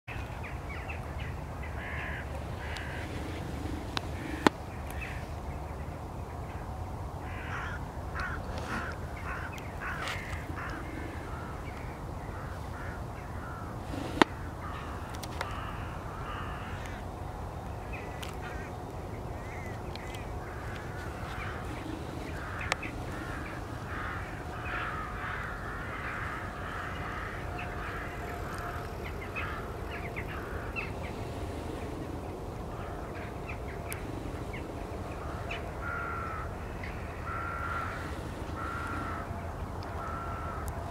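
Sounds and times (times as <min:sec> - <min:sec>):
steady low rumble: 0:00.1 - 0:40.9
crows cawing: 0:01.6 - 0:05.3, 0:07.2 - 0:40.9.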